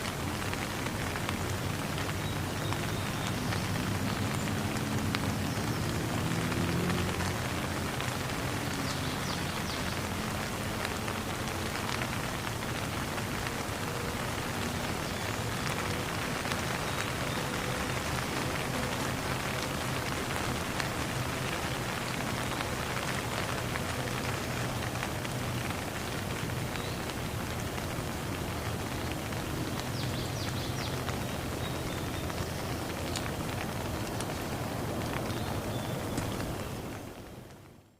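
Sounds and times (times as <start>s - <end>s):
raindrops clicking: 0.0s - 37.9s
steady rain falling: 0.0s - 37.9s.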